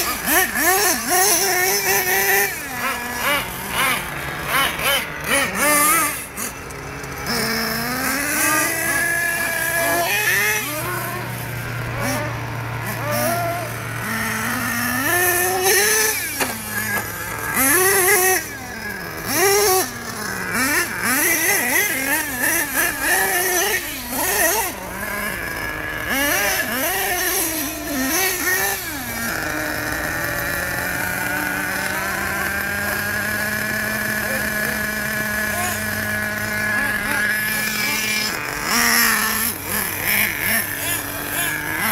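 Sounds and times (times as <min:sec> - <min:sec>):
small nitro engine revving: 0:00.0 - 0:41.9.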